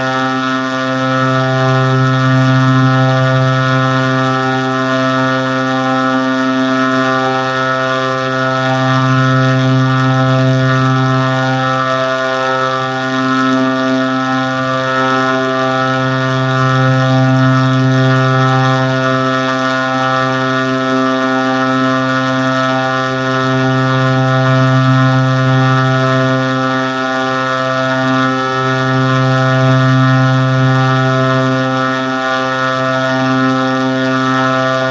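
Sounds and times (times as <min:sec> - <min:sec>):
low droning tone: 0:00.0 - 0:34.9.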